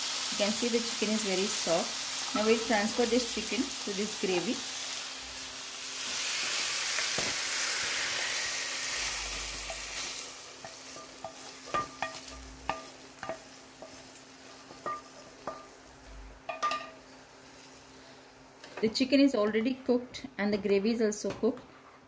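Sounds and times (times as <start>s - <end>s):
food sizzling: 0.0s - 18.8s.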